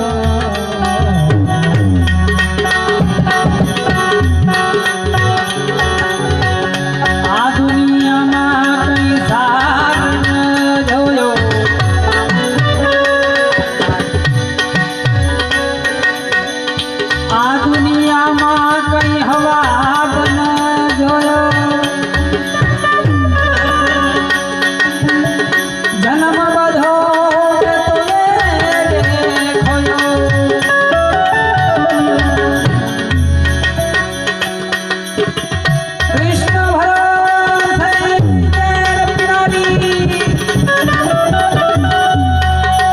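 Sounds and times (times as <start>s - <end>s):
harmonium melody: 0.0s - 42.9s
tabla beat: 0.0s - 42.9s.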